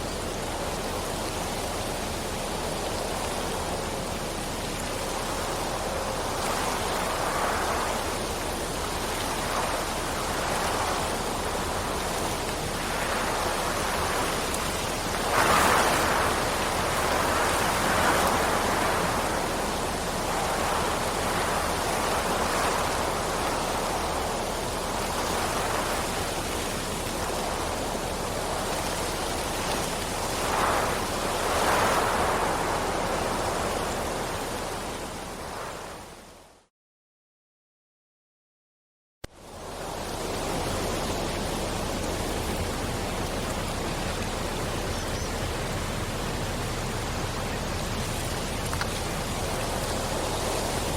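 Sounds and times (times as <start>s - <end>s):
heavy rain hiss: 0.0s - 36.5s, 39.4s - 50.9s.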